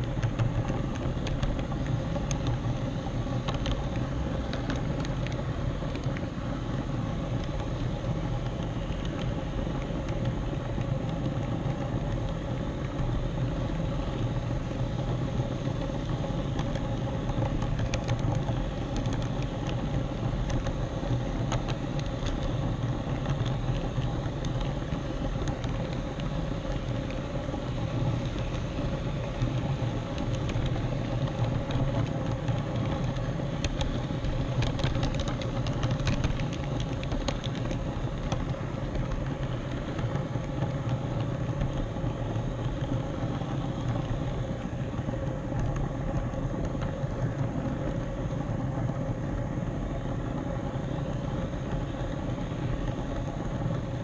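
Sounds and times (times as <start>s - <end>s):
wheels rumbling on rails: 0.0s - 54.0s.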